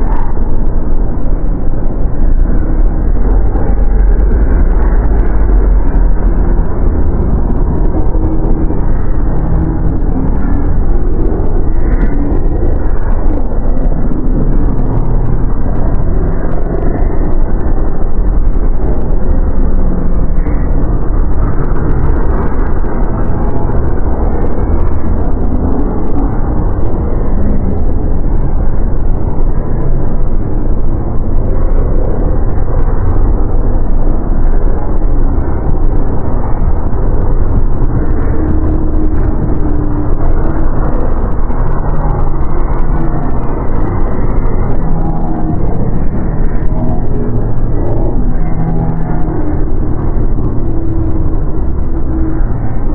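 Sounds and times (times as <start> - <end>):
faint drifting tones: 0.0 - 52.9
low rumble: 0.0 - 52.9.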